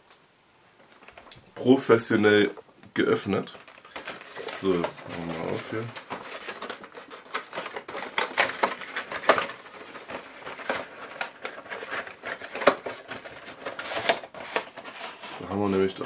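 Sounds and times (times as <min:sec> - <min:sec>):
plastic wrapping crinkling: 0:00.8 - 0:01.4, 0:02.4 - 0:16.0.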